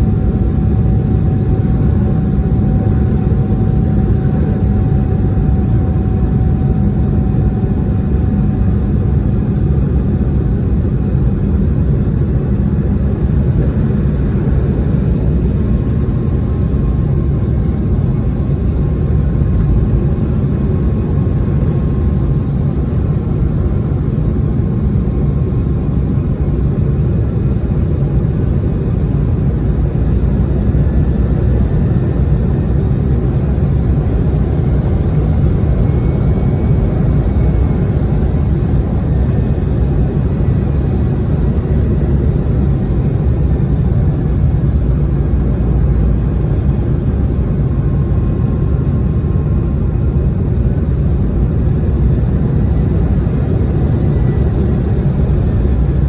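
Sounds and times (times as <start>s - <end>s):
airliner cabin engine noise: 0.0s - 56.0s.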